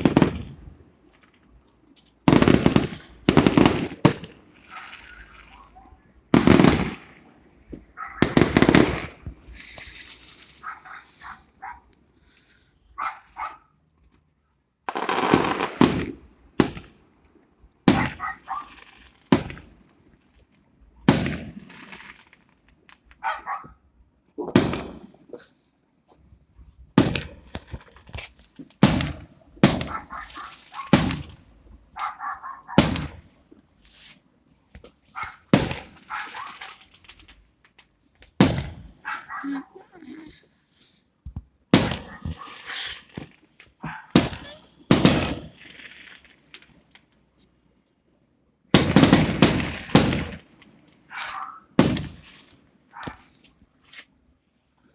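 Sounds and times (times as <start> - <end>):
firecrackers banging: 0.0 - 13.4, 14.9 - 23.4, 24.4 - 25.5, 26.2 - 40.6, 41.3 - 47.2, 48.7 - 53.4.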